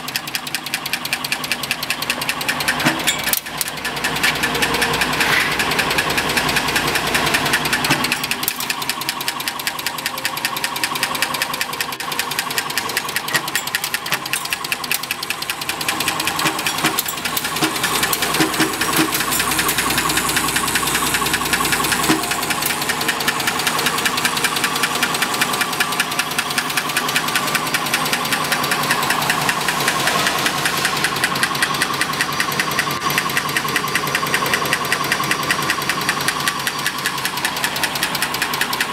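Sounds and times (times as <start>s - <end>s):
screw-making machine clattering: 0.0s - 38.9s.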